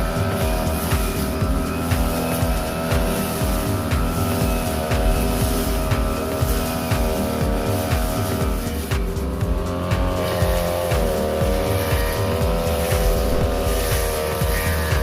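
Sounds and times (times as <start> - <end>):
brush cutter engine cutting grass: 0.0 - 15.0.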